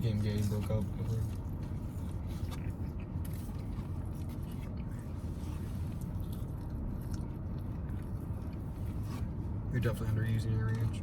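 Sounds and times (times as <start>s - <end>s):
person chewing food: 0.4s - 9.6s.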